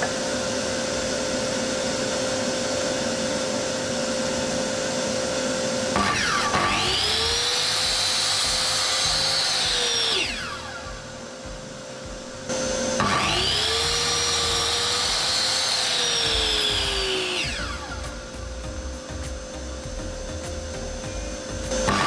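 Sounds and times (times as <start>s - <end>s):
miter saw cutting wood: 0.0s - 22.0s.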